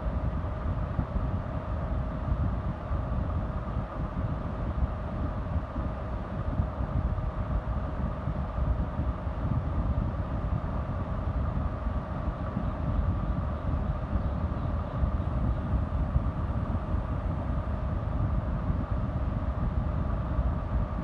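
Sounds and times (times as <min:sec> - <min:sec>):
faint steady hum: 0:00.0 - 0:21.0
low rumbling background noise: 0:00.0 - 0:21.0.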